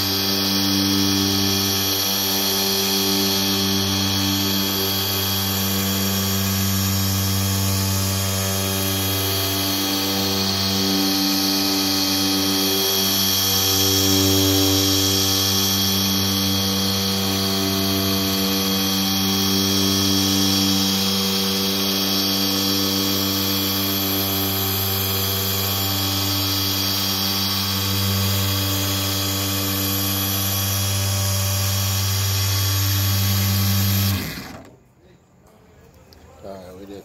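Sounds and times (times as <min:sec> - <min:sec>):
polisher motor whine: 0:00.0 - 0:34.8.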